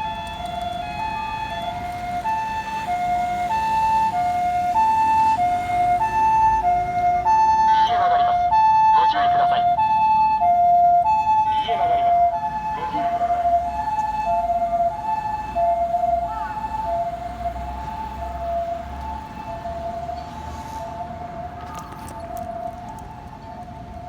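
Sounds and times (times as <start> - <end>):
two-tone ambulance siren: 0.0 - 24.0.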